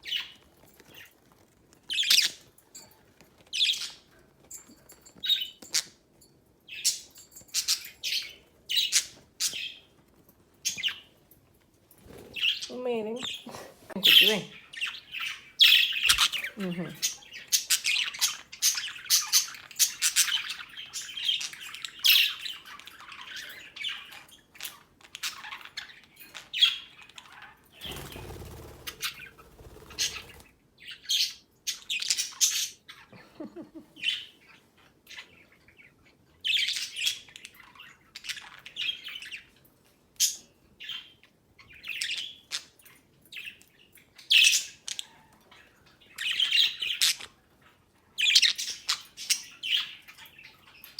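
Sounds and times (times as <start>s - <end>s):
budgerigars chirping and squawking: 0.0s - 1.1s, 1.9s - 4.1s, 6.7s - 9.9s, 10.6s - 11.2s, 12.0s - 33.1s, 34.0s - 50.9s.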